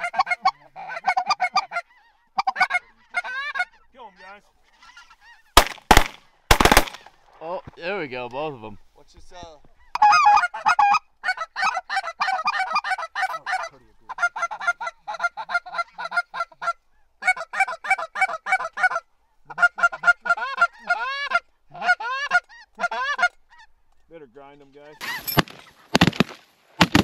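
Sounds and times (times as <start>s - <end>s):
geese calling: 0.0s - 7.1s, 8.5s - 26.4s.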